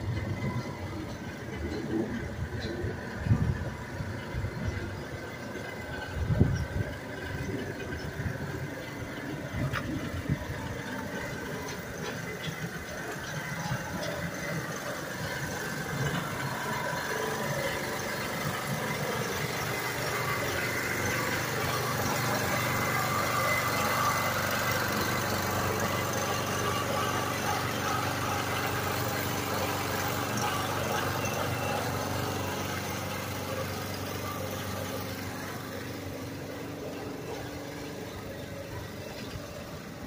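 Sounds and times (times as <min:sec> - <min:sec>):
street traffic: 0:00.0 - 0:40.0.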